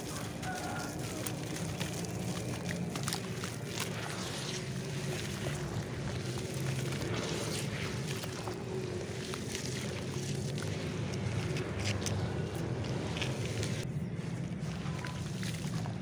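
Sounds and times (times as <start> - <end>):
hands squeezing wet clay: 0.0 - 16.0
water splashing and sloshing: 0.0 - 16.0.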